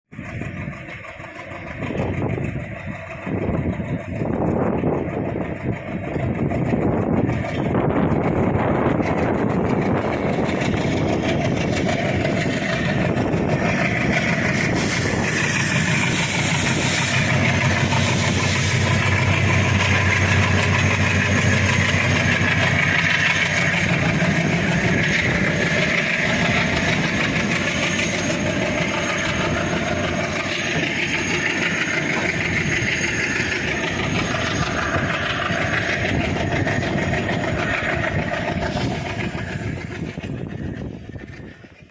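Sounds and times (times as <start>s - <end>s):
train rumbling past: 0.1s - 41.9s
wheels clattering on rails: 0.1s - 41.9s
low drone: 0.2s - 41.9s.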